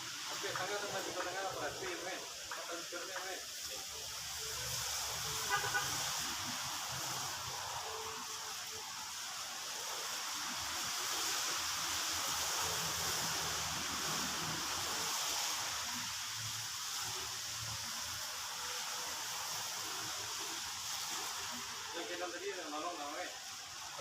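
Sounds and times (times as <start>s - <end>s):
steady hissing noise: 0.0s - 24.0s.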